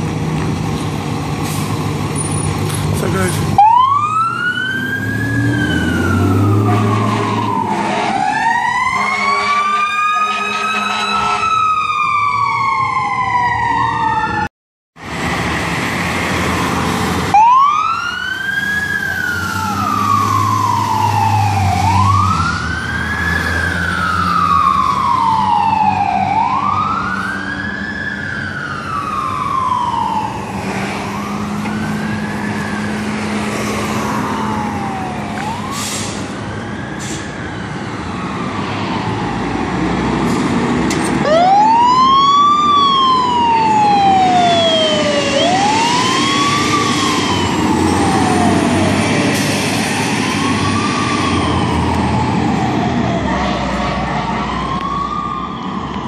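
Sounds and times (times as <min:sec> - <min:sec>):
truck engine rumble: 0:00.0 - 0:08.7, 0:15.0 - 0:56.0
fire truck sirens wailing: 0:00.0 - 0:56.0.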